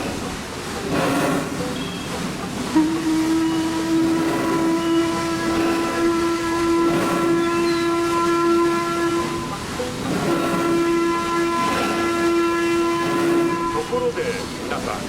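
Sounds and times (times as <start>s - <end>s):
boat whistle steady tone: 0.0s - 15.0s
steam-like hiss: 0.0s - 15.0s.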